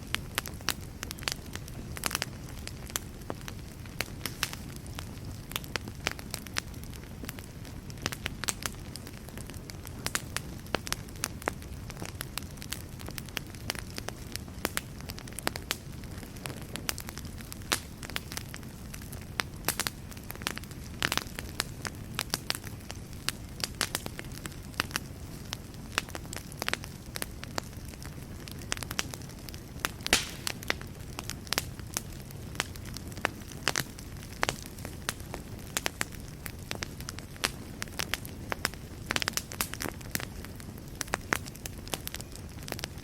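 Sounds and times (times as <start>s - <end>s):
fire rumbling: 0.0s - 43.0s
wood crackling and popping: 0.0s - 43.0s.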